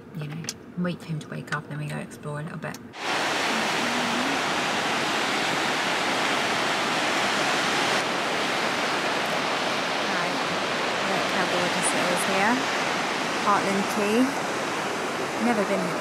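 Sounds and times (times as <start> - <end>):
sea surf breaking on rocks: 3.0 - 16.0.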